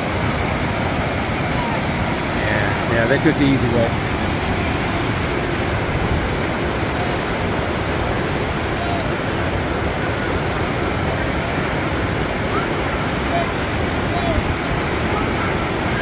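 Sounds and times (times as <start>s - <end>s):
rapids rushing over rocks: 0.0s - 16.0s.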